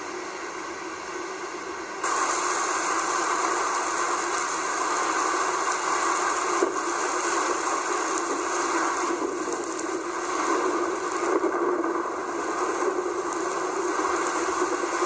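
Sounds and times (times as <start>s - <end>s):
heavy rain hissing: 2.0s - 15.0s.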